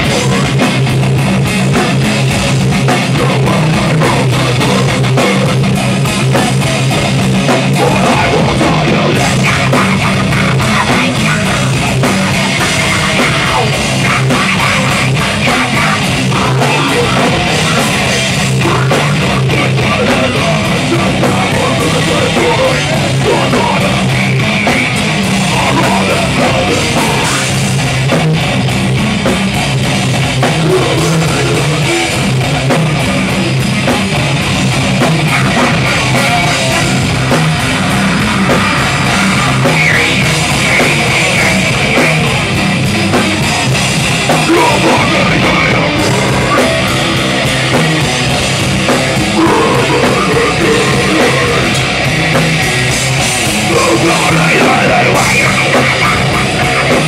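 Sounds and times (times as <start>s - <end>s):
distorted electric guitar: 0.0s - 57.0s
drum kit: 0.0s - 57.0s
harsh shouted vocals: 1.6s - 27.7s, 30.3s - 57.0s.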